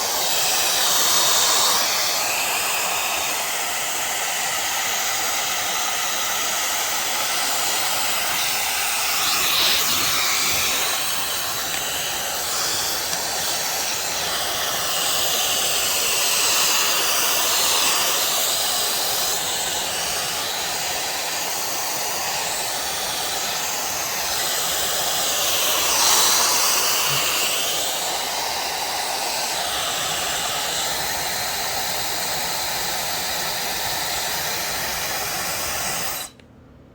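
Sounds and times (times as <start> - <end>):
hot-air styler blowing: 0.0 - 36.4.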